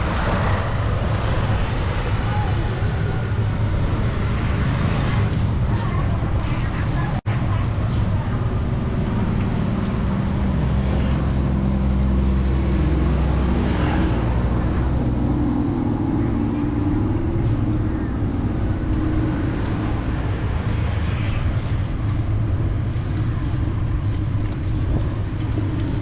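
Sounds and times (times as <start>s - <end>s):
deep engine hum: 0.0s - 26.0s
passing vehicle engines: 0.0s - 26.0s.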